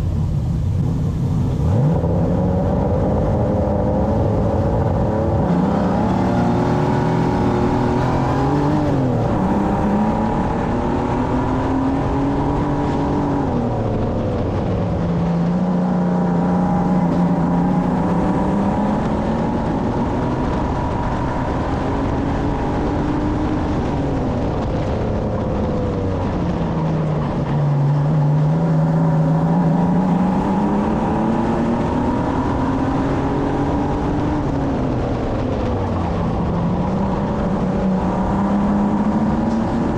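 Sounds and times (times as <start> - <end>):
racing car engine under load: 0.0 - 39.9.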